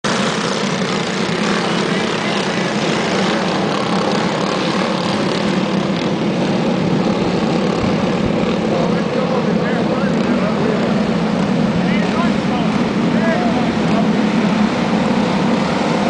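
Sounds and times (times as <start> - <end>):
racing kart engines droning: 0.0 - 16.0.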